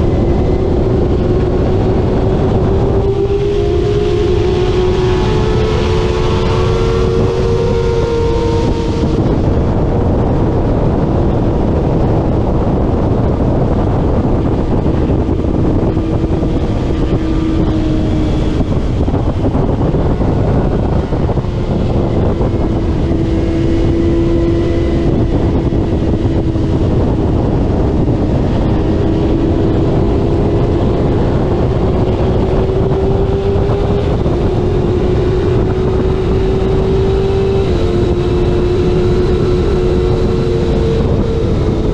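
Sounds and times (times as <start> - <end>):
motorcycle engine at speed: 0.0 - 41.9
wind rush: 0.0 - 41.9.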